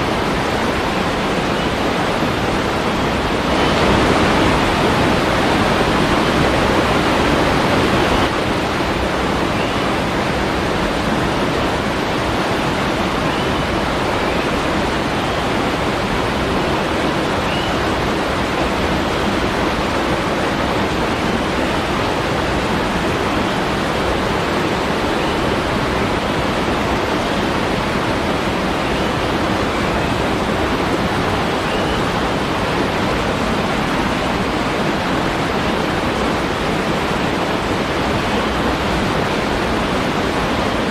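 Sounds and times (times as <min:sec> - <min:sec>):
falling water rushing: 0:00.0 - 0:40.9.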